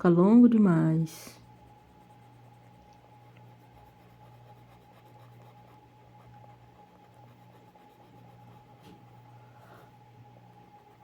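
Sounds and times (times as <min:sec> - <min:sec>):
low electrical hum: 0:00.0 - 0:11.0
pencil scratching on paper: 0:01.3 - 0:09.7, 0:10.5 - 0:11.0.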